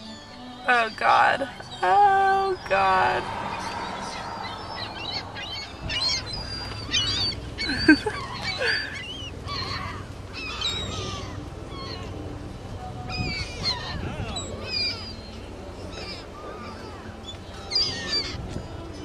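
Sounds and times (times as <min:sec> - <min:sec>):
flock of birds squealing: 0:02.4 - 0:12.2, 0:13.0 - 0:18.6.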